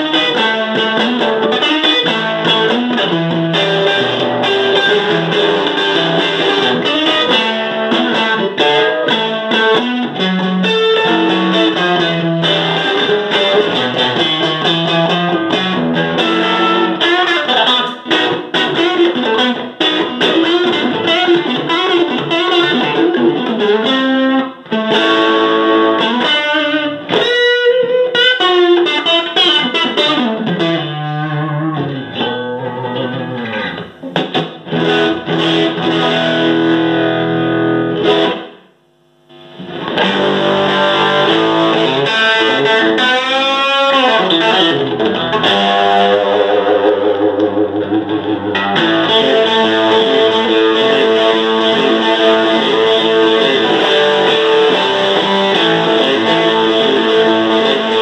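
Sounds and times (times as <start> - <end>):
electric guitar through tube amp: 0.0 - 58.0.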